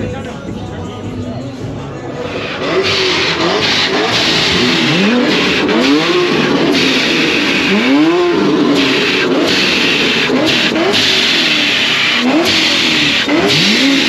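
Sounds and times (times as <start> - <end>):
loud steady noise: 0.0 - 14.0
car engine revving: 1.9 - 14.0.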